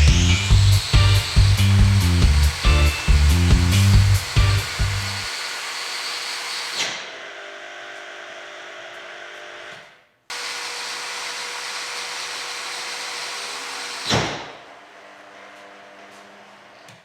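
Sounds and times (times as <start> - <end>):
angle grinder running: 0.0 - 14.2.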